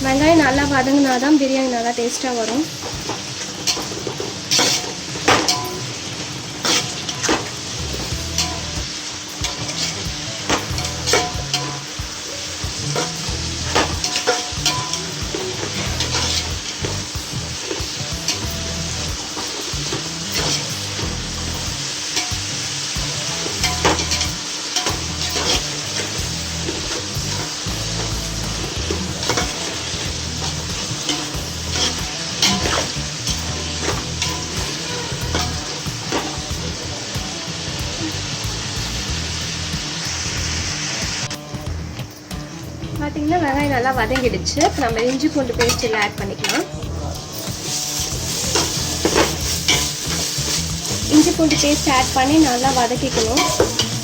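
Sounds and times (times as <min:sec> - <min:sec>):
vegetables sizzling in oil: 0:00.0 - 0:54.0
utensil scraping a pan: 0:02.7 - 0:37.0, 0:44.2 - 0:54.0.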